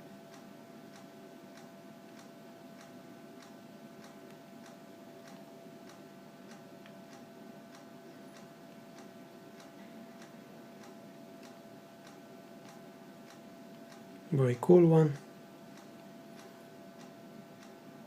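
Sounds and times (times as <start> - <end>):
faint ticking: 0.3 - 18.0.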